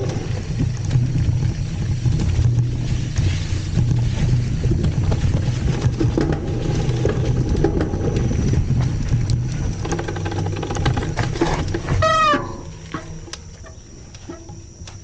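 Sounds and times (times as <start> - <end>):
bike clicks and rattles: 0.0 - 15.0
bike tyres rumbling on dirt: 0.0 - 15.0.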